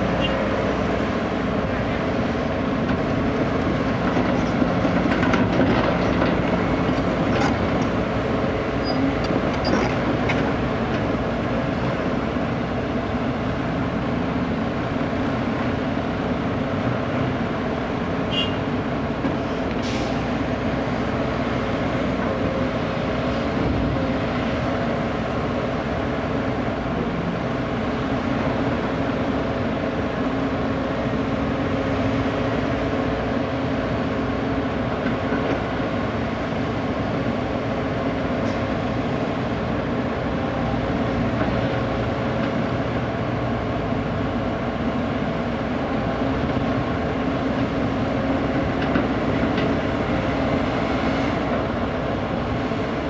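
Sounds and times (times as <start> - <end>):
diesel engines running: 0.0 - 53.0.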